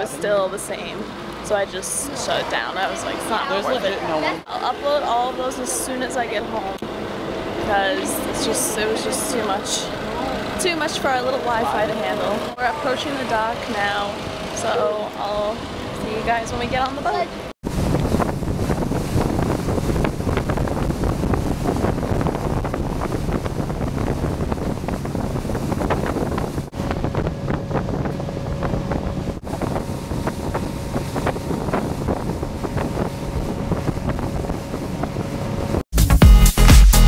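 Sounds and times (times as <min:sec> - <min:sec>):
motorboat engine running: 0:00.0 - 0:35.8
wind buffeting microphone: 0:00.2 - 0:35.8.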